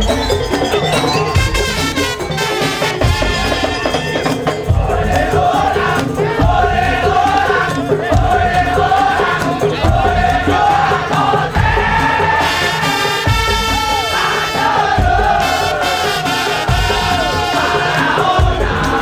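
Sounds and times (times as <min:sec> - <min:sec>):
heavy drum strokes: 0:00.0 - 0:19.0
wavering melody line: 0:00.0 - 0:19.0.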